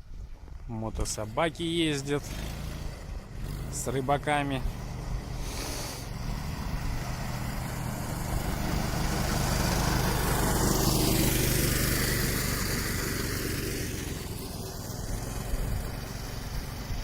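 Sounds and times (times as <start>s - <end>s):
small engine passing by: 0.0s - 17.0s.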